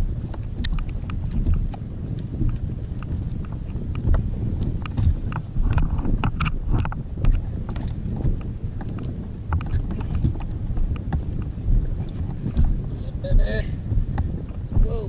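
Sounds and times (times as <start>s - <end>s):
water knocking against hull: 0.0s - 15.0s
wind buffeting microphone: 0.0s - 15.0s.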